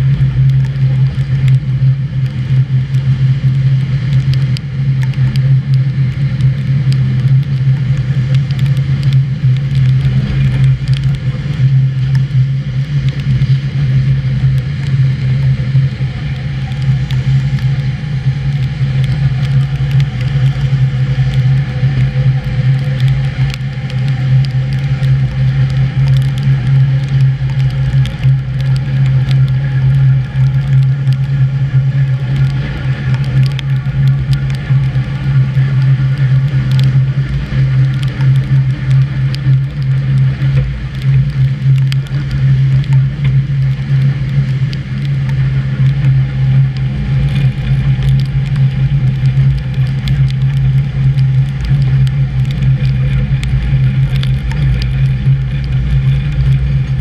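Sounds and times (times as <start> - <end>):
train running low drone: 0.0 - 57.0.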